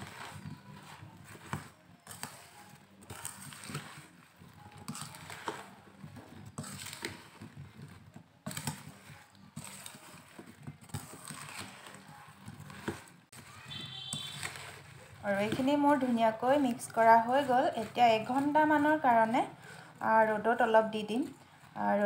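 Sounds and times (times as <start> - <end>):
spoon knocking and scraping bowl: 0.0 - 19.1
spoon stirring in metal bowl: 0.0 - 22.0.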